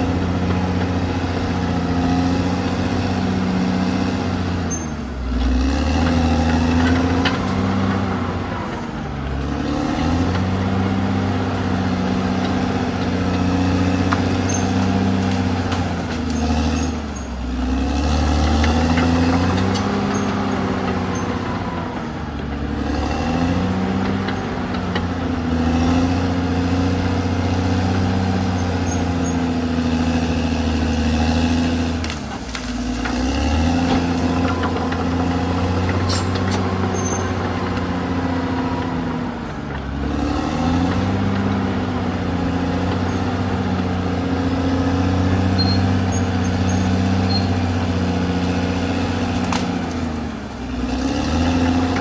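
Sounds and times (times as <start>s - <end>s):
bulldozer diesel engine under load: 0.0s - 52.0s.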